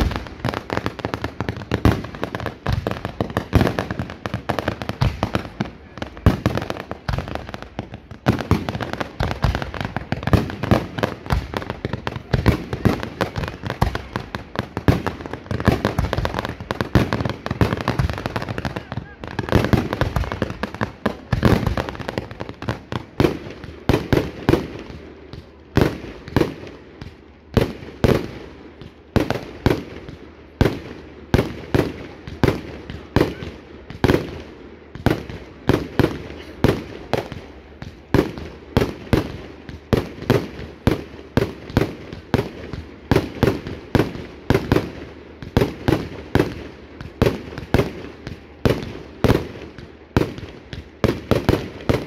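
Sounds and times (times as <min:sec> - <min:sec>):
fireworks sharp bangs: 0:00.0 - 0:52.0.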